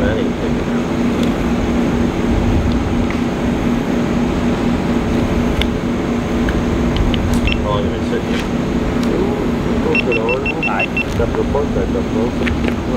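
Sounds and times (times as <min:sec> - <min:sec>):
low mechanical hum and rumble: 0:00.0 - 0:12.9.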